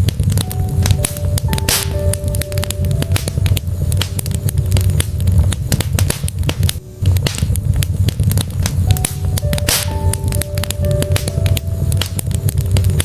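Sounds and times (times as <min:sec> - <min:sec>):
low rumble of burning logs: 0:00.0 - 0:13.0
wood fire crackling: 0:00.0 - 0:13.0.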